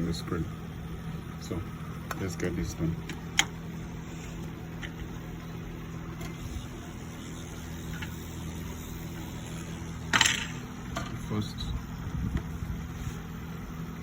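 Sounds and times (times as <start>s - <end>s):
laptop speaker buzzing hum: 0.0s - 14.0s.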